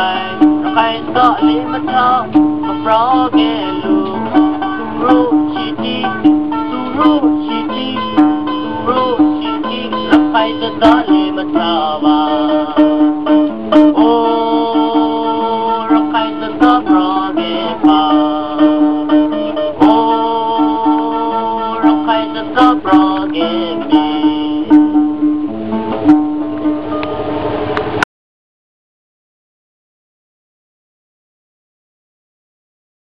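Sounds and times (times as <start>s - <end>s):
plucked mandolin folk music: 0.0s - 28.0s.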